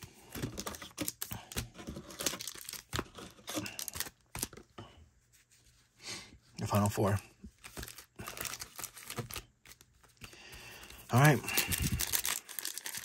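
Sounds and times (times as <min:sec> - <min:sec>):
card packs crinkling and rustling: 0:00.0 - 0:04.8, 0:06.6 - 0:13.0.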